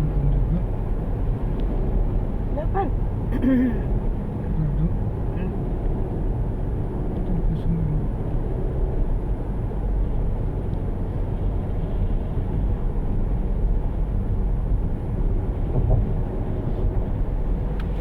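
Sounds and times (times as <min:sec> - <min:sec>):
vehicle rumbling in motion: 0:00.0 - 0:18.0.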